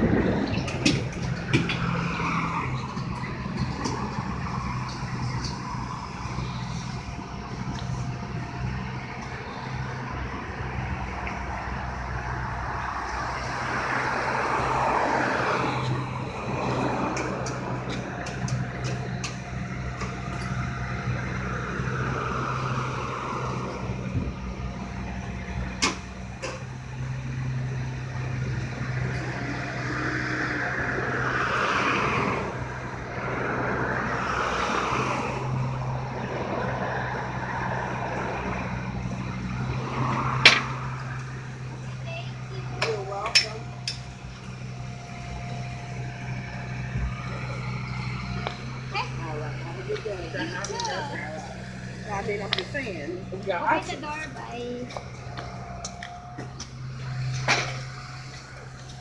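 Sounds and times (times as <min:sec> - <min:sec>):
minibus engine idling: 0:00.0 - 0:31.4, 0:32.2 - 0:59.0
lift motor whine: 0:00.0 - 0:59.0.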